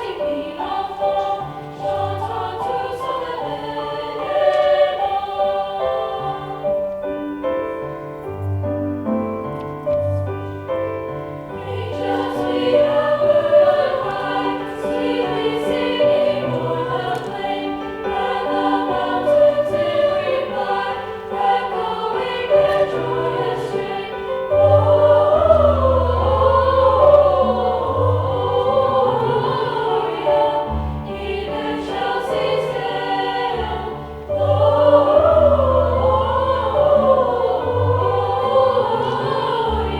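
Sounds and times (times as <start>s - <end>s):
choir duet singing a carol: 0.0s - 8.2s, 10.3s - 39.9s.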